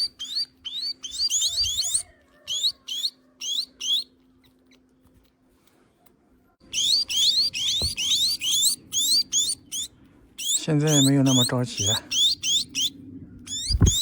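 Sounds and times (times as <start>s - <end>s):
young birds begging chirps: 0.0s - 4.1s, 6.6s - 14.0s.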